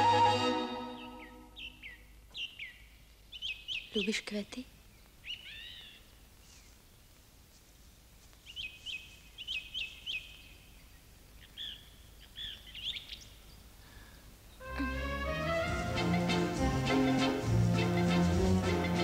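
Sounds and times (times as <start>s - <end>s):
birds chirping: 0.0s - 7.1s, 8.4s - 19.0s.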